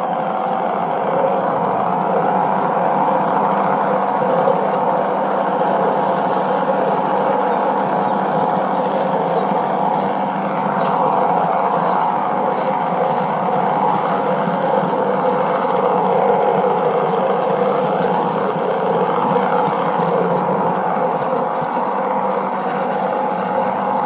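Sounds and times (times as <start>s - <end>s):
model train mechanical drone: 0.0s - 24.0s.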